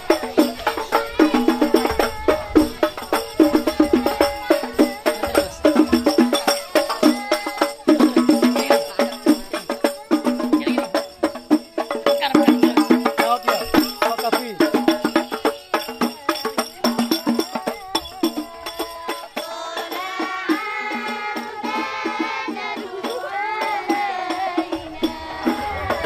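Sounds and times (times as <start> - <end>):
frame drums with jingles beaten: 0.0 - 26.0.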